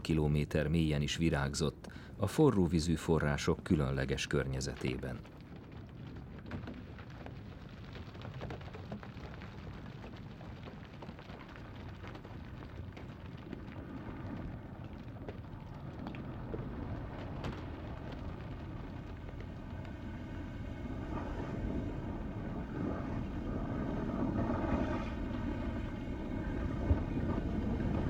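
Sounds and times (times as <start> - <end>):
steady low rumble: 0.0 - 8.4, 11.8 - 28.0
faint crackles: 0.0 - 28.0.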